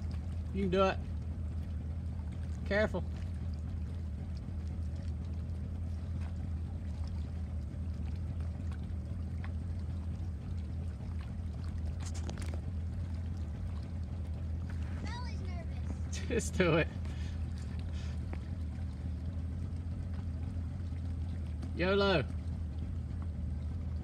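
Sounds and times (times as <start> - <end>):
boat motor idling: 0.0 - 24.0.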